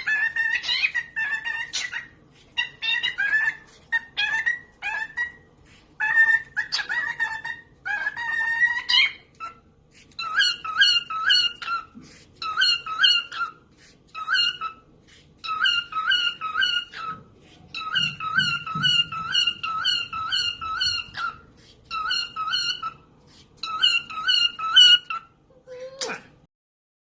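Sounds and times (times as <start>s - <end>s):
parrot calling and squawking: 0.0s - 26.5s.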